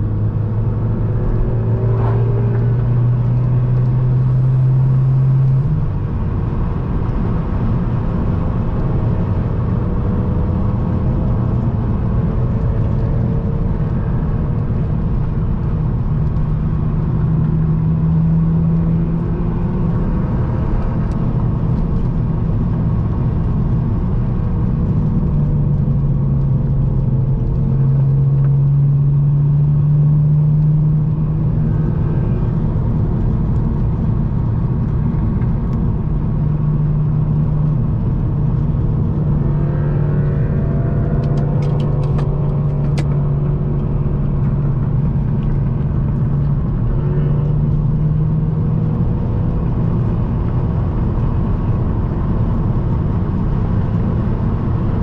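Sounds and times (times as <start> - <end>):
car engine and loud exhaust: 0.0 - 55.0
other engines: 0.0 - 55.0
road noise: 0.0 - 55.0.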